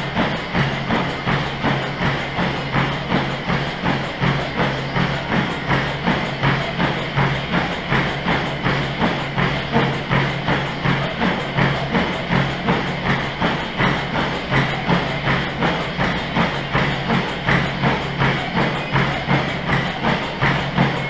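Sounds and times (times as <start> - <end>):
running footfalls on treadmill belt: 0.0 - 21.0
steady low hum: 0.0 - 21.0.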